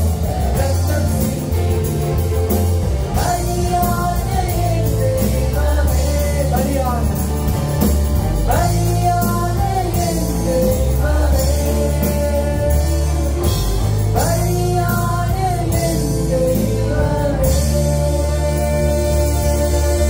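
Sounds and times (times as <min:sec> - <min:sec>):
band with bass and keyboard: 0:00.0 - 0:20.0.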